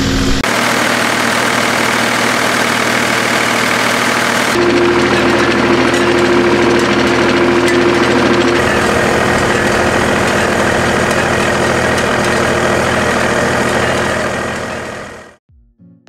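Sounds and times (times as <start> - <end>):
tractor diesel engine running: 0.0 - 15.4.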